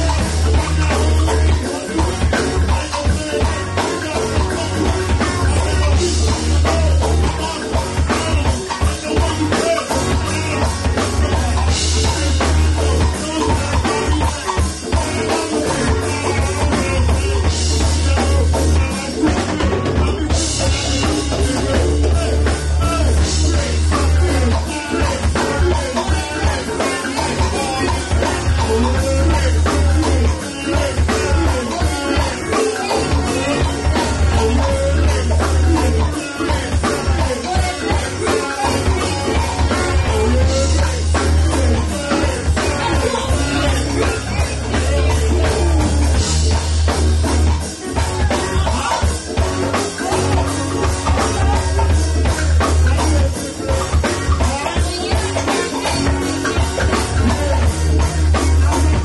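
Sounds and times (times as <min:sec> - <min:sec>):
drum kit: 0:00.0 - 0:59.0
electric guitar: 0:00.0 - 0:59.0
voices singing: 0:00.0 - 0:59.0.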